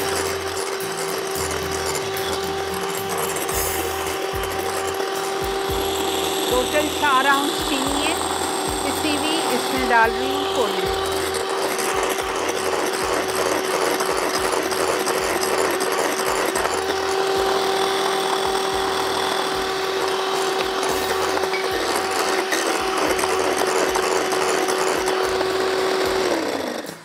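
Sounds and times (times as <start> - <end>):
electric hand mixer whirring: 0.0 - 27.0.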